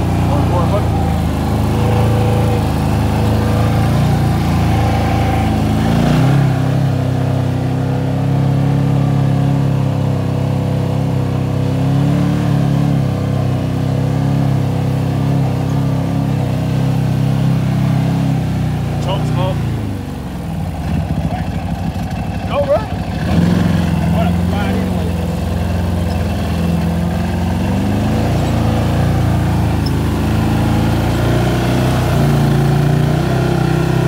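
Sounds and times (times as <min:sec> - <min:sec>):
off-road vehicle engine revving: 0:00.0 - 0:34.0.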